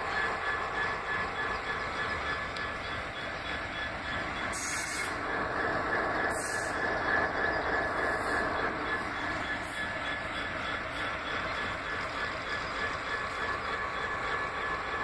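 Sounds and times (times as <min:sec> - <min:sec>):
diesel locomotive engine rumble: 0:00.0 - 0:15.0
high-pitched whine: 0:00.0 - 0:15.0.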